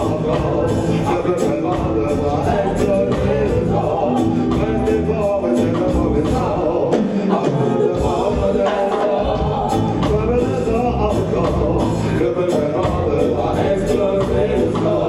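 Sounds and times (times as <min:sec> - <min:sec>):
live reggae band playing: 0:00.0 - 0:15.0
people singing: 0:00.0 - 0:15.0.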